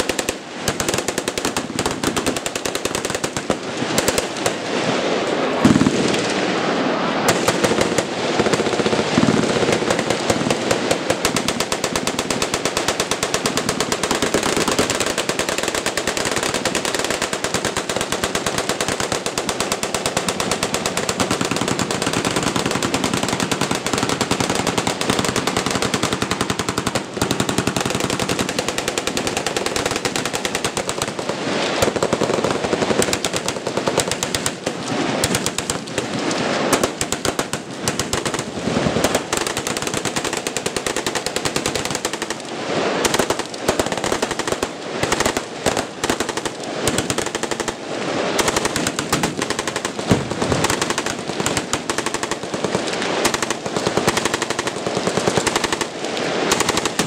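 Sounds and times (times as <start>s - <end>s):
machine guns firing: 0.0s - 6.6s, 7.2s - 57.0s.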